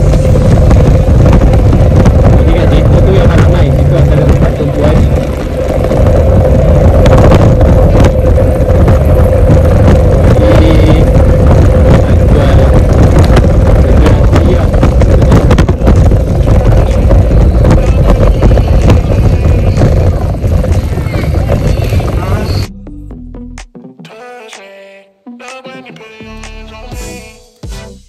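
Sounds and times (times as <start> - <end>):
bicycle road noise: 0.0 - 22.7
wind buffeting microphone: 0.0 - 22.7
steady hum: 0.0 - 23.2.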